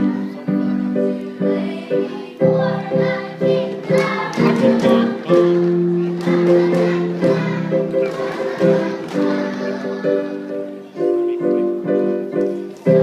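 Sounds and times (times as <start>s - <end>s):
children's choir singing: 0.0s - 13.0s
instrumental accompaniment: 0.0s - 13.0s.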